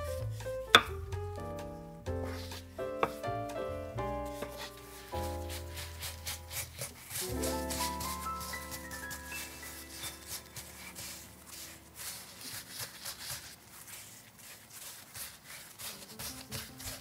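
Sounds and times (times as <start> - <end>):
hands rolling dough on board: 0.0 - 17.0.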